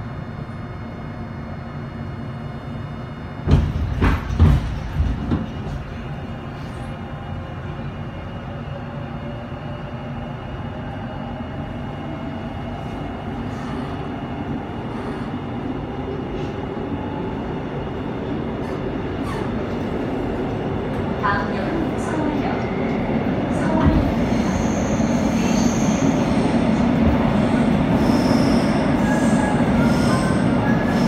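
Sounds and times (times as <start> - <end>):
train wheels rumbling on rails: 3.3 - 8.8, 11.6 - 31.0.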